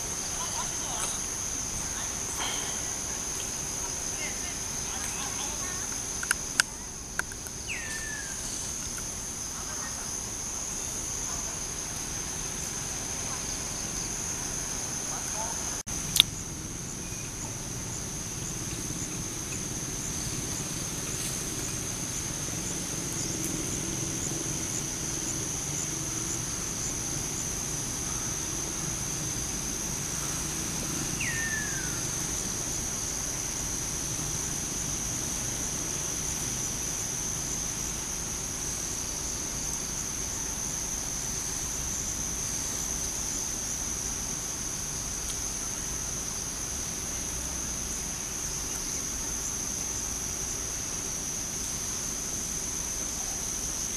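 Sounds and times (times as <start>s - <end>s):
high-pitched insect drone: 0.0s - 53.9s.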